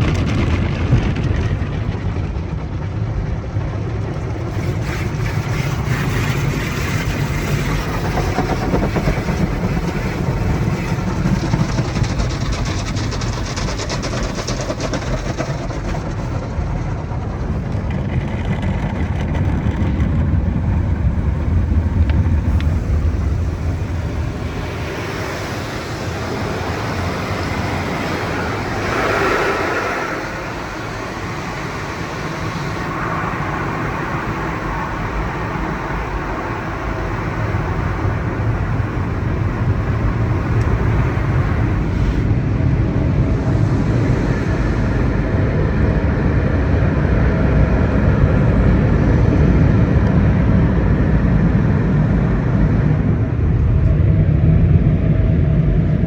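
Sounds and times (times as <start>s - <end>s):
car wash equipment rumbling: 0.0s - 56.0s.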